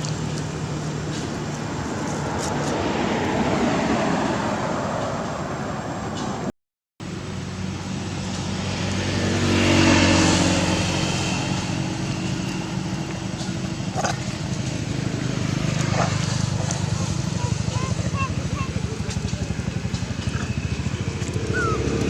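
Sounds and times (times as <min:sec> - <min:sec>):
vehicle engine passing: 0:00.0 - 0:22.0.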